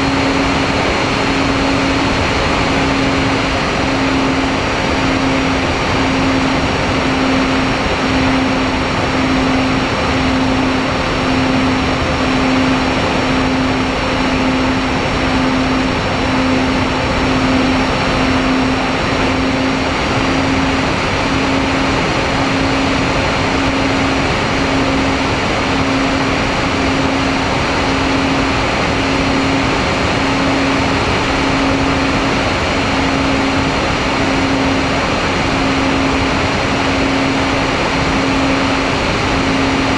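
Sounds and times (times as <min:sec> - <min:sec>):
electric motors and propellers humming: 0:00.0 - 0:39.9
rush of airflow: 0:00.0 - 0:39.9.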